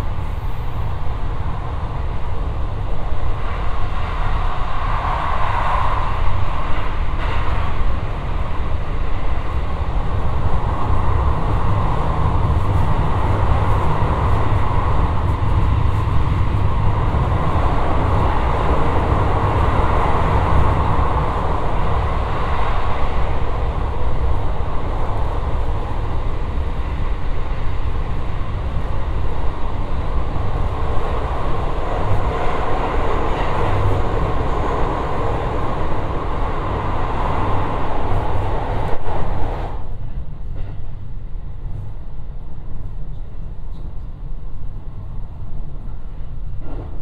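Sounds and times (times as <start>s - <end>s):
train running in tunnel: 0.0s - 47.0s.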